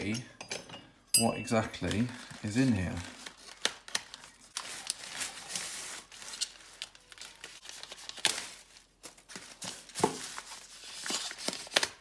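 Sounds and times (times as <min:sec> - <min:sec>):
plastic bag crinkling: 0:01.5 - 0:12.0.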